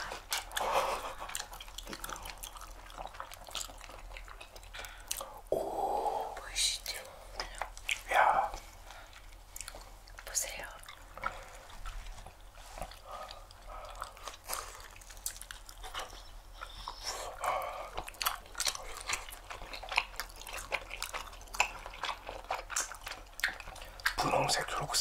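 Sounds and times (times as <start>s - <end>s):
chewing and lip-smacking: 0.0s - 5.5s, 6.8s - 25.0s.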